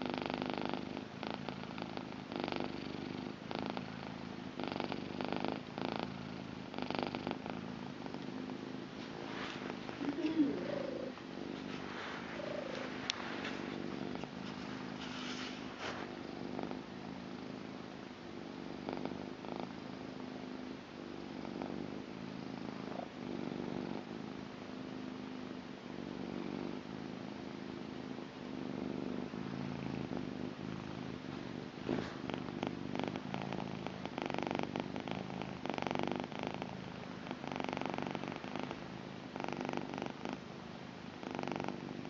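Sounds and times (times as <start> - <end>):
cat purring: 0.0 - 42.0.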